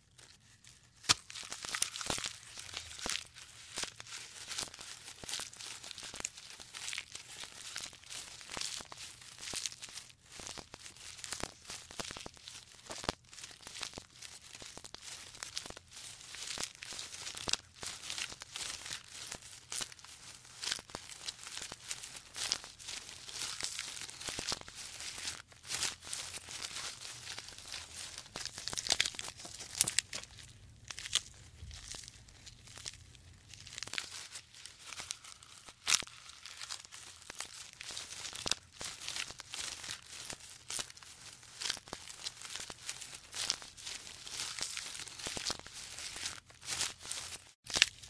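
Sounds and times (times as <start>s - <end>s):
giraffe stripping and chewing leaves: 0.0s - 48.0s.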